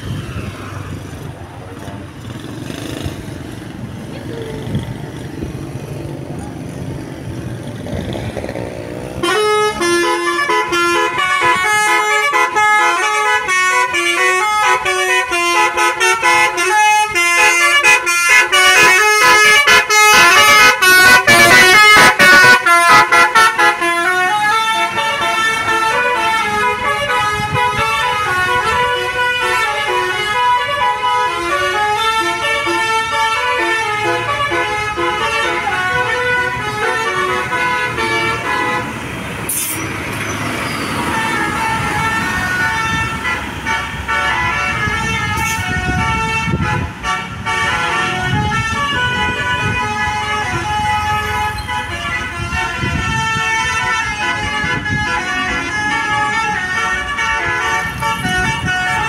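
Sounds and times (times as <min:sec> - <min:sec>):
musical bus air horn tune: 0:09.1 - 0:39.9, 0:40.9 - 0:59.0.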